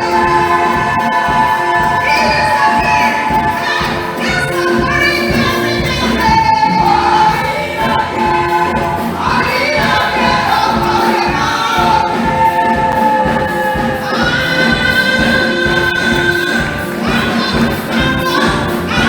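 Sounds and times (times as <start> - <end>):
choir singing a carol: 0.0 - 19.0
instrumental backing with beat: 0.0 - 19.0.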